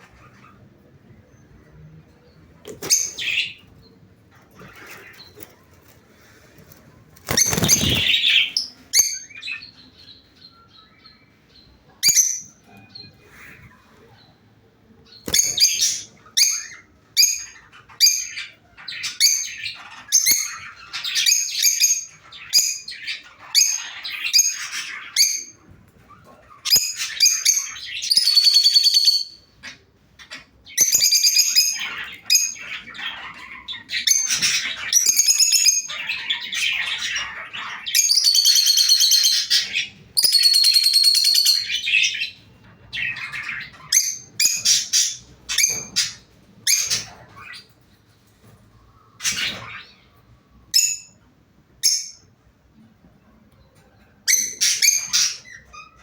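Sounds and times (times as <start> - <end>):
lovebirds chirping: 0.0 - 47.8, 54.2 - 56.0.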